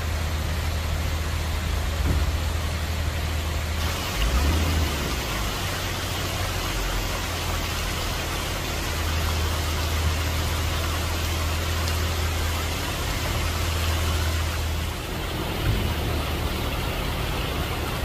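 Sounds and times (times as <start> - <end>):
water splashing into fountain pool: 0.0 - 18.0.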